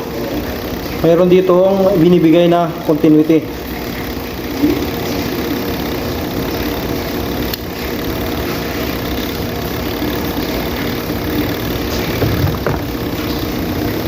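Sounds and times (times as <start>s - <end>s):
timer motor hum: 0.0s - 14.0s.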